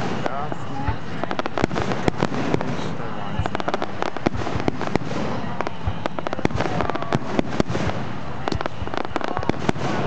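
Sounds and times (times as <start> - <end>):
faint firework whistles: 0.0 - 10.0
firework bangs and crackles: 0.0 - 10.0.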